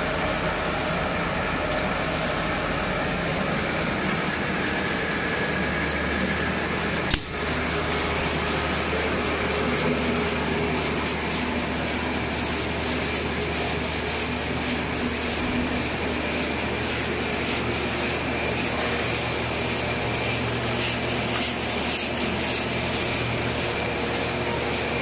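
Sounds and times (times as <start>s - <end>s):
pellets tumbling in rotating drum: 0.0s - 25.0s.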